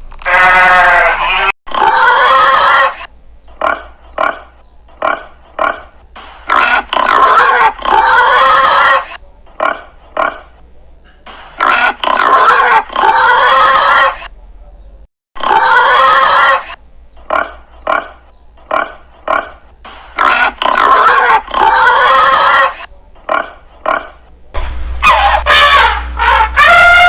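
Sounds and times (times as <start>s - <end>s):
pigs squealing: 0.2s - 5.9s, 6.5s - 10.5s, 11.6s - 14.3s, 15.4s - 19.6s, 20.2s - 24.2s, 25.0s - 27.0s
pigs grunting: 0.3s - 10.6s, 11.6s - 14.3s, 15.4s - 24.2s.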